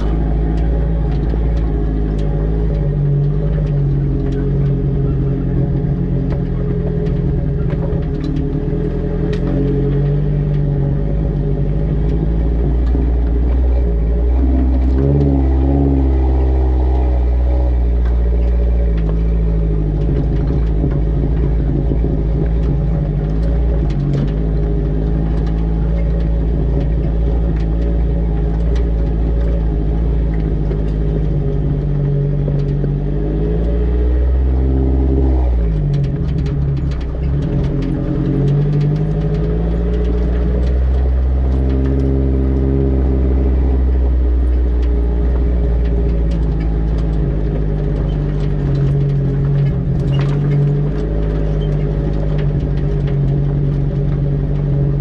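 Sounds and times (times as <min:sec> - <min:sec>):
small knocks and rattles: 0:00.0 - 0:55.0
vehicle engine running: 0:00.0 - 0:55.0.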